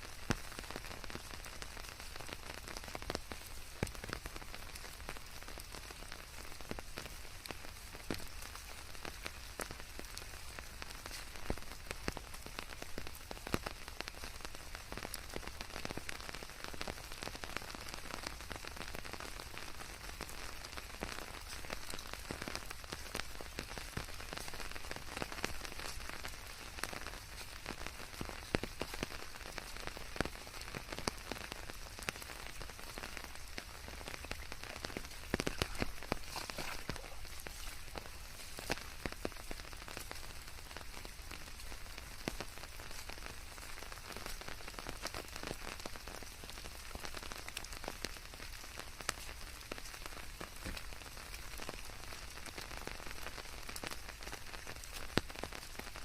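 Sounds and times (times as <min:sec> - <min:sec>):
raindrops tapping: 0:00.0 - 0:56.0
steady rain falling: 0:00.0 - 0:56.0.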